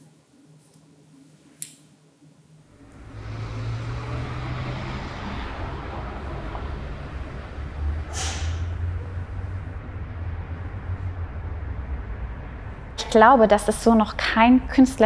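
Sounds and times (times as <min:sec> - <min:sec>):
city traffic rumble: 0:02.7 - 0:15.0.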